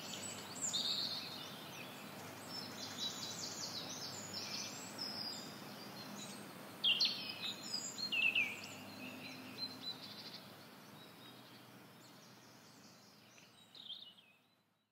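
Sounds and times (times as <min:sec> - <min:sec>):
songbirds chirping and singing: 0:00.0 - 0:14.9.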